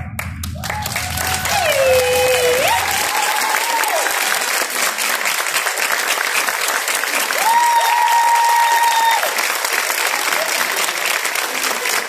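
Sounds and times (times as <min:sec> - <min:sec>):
audience applauding: 0:00.0 - 0:12.0
high held cheers: 0:00.5 - 0:05.2, 0:07.0 - 0:12.0.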